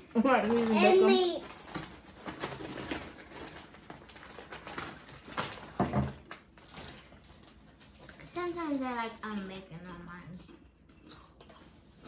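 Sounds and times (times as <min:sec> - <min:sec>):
chip bag crinkling: 0:00.3 - 0:10.1.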